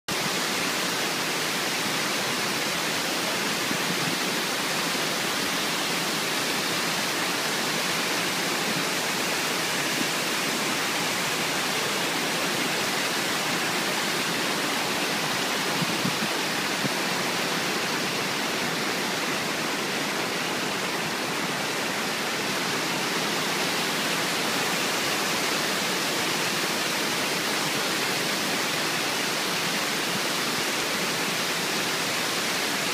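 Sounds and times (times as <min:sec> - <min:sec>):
waterfall rushing over rocks: 0:00.1 - 0:32.9.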